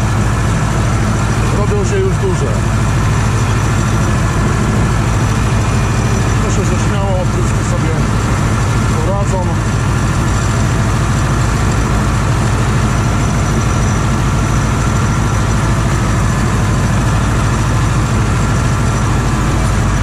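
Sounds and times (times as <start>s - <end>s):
tractor engine droning: 0.0s - 20.0s.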